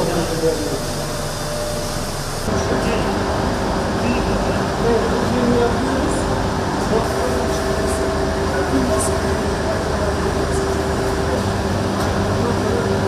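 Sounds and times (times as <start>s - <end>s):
industrial machinery humming: 0.0s - 13.0s
steady machine tones: 0.0s - 13.0s.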